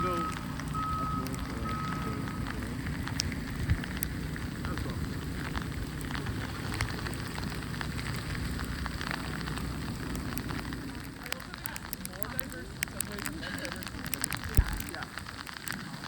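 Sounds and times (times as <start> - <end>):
small crackles and ticks: 0.0 - 16.0
steady low rumble: 0.0 - 16.0.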